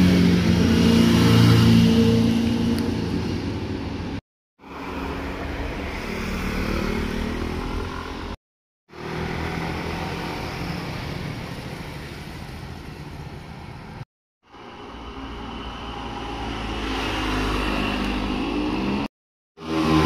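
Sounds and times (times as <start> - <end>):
motorcycle engines passing: 0.0 - 4.0, 4.7 - 8.4, 9.0 - 13.8, 14.6 - 20.0.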